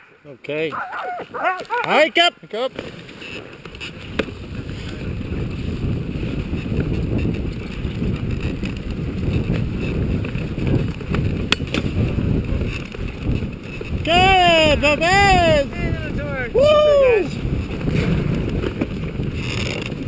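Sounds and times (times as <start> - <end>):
sled runners scraping on snow: 0.7 - 16.5, 17.3 - 20.0
wind buffeting microphone: 3.4 - 20.0.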